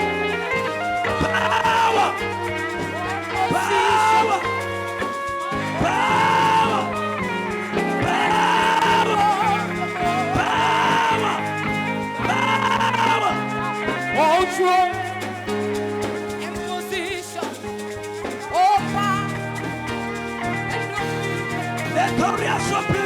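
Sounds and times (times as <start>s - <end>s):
keyboard and guitar chords: 0.0s - 23.0s.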